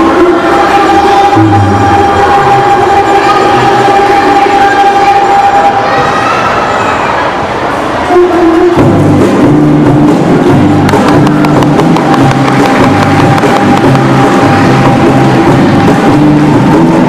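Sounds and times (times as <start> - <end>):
repeating bass line: 0.0 - 5.8, 8.2 - 17.0.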